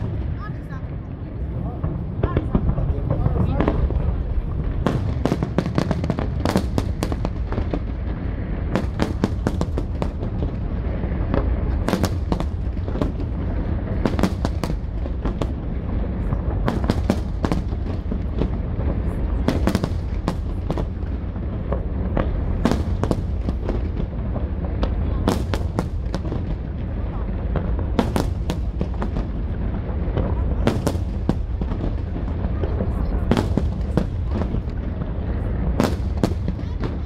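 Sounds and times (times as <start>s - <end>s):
low rumble of booms: 0.0s - 37.0s.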